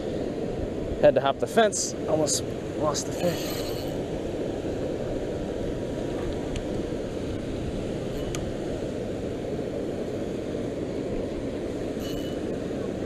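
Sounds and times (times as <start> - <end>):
churning water rushing: 0.0 - 13.0.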